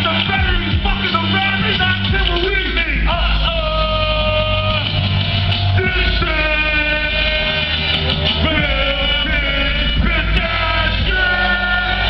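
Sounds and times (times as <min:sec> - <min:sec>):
hip hop music over loudspeakers: 0:00.0 - 0:12.0.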